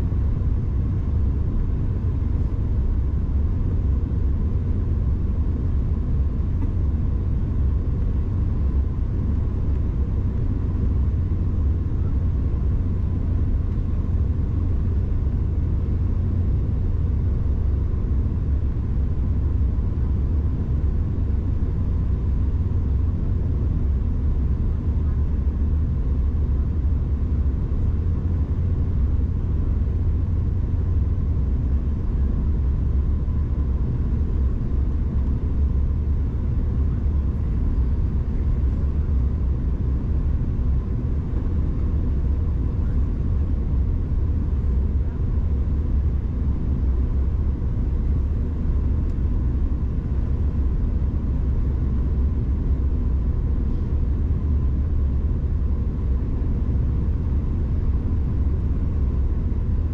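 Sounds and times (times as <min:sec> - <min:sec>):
airflow and turbofan noise: 0:00.0 - 0:59.9
jet cabin rumble: 0:00.0 - 0:59.9.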